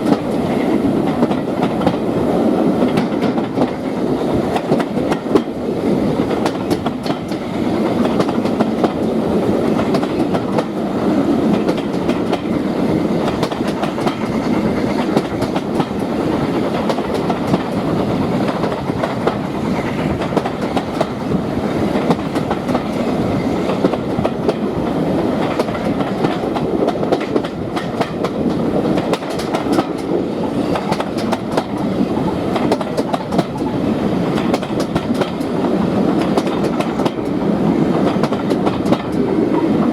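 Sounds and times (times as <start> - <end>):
train rumbling: 0.0 - 39.9
train wheels clattering over rail joints: 0.0 - 39.9.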